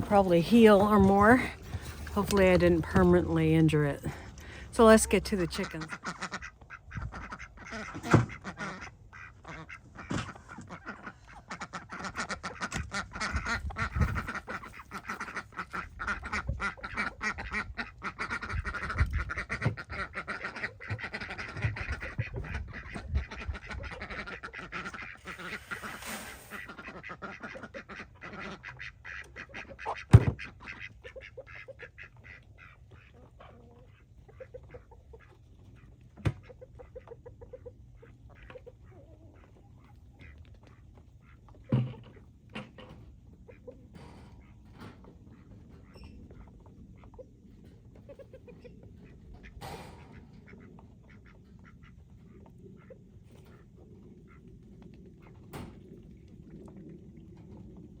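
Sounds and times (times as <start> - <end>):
ducks quacking: 0.0 - 54.6.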